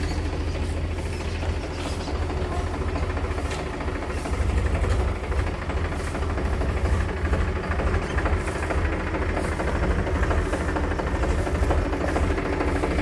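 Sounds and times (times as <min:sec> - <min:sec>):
tractor diesel engine rumbling: 0:00.0 - 0:13.0.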